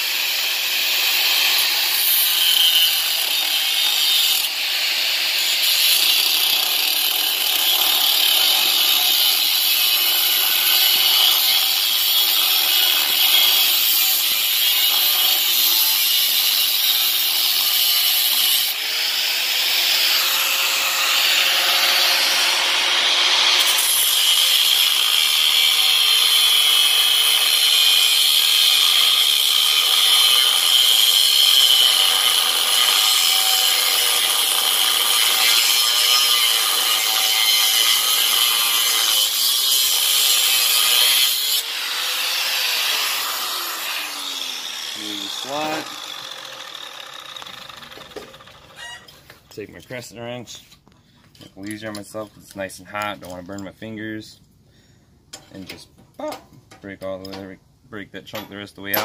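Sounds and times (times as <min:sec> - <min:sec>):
angle grinder cutting metal tube: 0:00.0 - 0:49.1.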